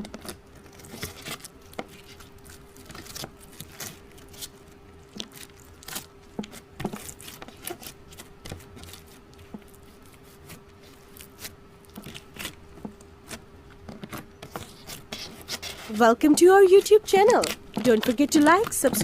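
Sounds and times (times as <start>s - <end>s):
faint steady hum: 0.0s - 19.0s
slime squishing: 0.0s - 19.0s.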